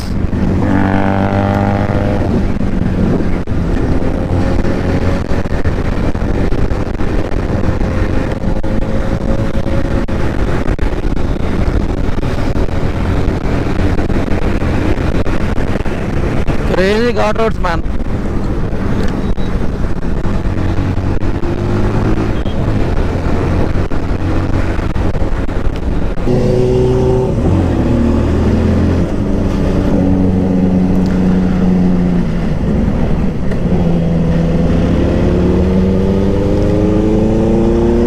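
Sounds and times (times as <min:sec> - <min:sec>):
motorcycle engine accelerating: 0:00.0 - 0:17.3, 0:18.0 - 0:38.0.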